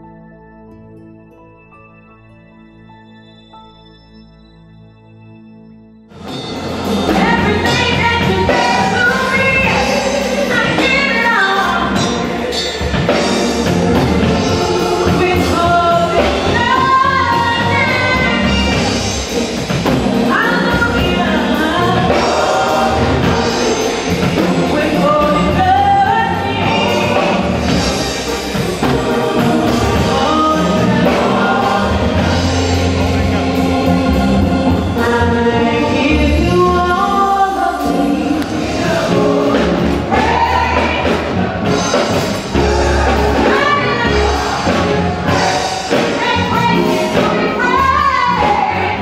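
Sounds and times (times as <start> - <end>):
low musical accompaniment: 0.0 - 49.0
gospel choir singing: 6.2 - 49.0.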